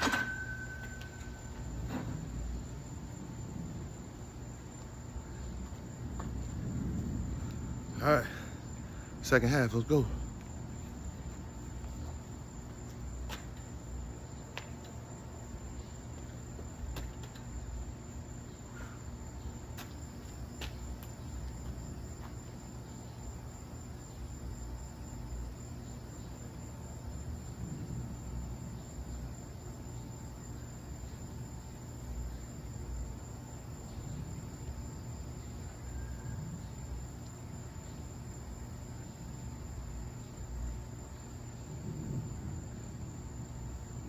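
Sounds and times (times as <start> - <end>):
cricket trilling: 0.0 - 44.0
low steady hum: 0.0 - 44.0.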